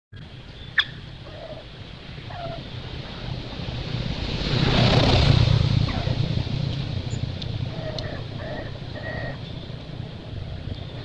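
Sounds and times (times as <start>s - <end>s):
broad rushing noise: 0.2s - 11.0s
low rumble: 0.2s - 11.0s.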